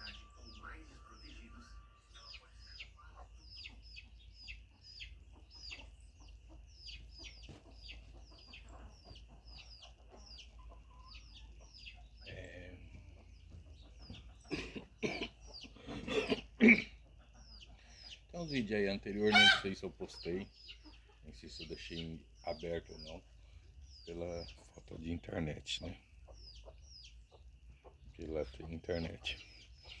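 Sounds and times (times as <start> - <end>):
chickens clucking: 0.0 - 30.0
chicks peeping: 0.0 - 30.0.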